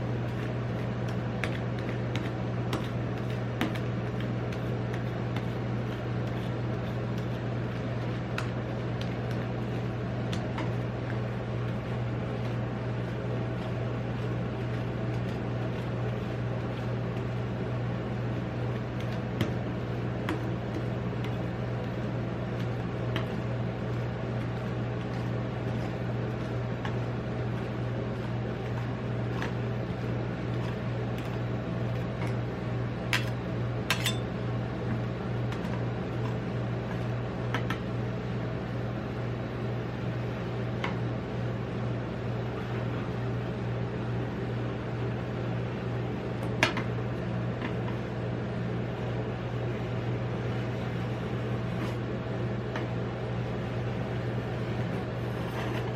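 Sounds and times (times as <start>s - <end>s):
machine low hum: 0.0s - 55.9s.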